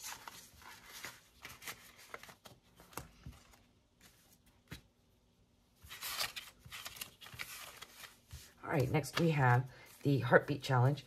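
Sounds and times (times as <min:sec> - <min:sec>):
paper and plastic rustling: 0:00.0 - 0:04.8, 0:05.8 - 0:10.3.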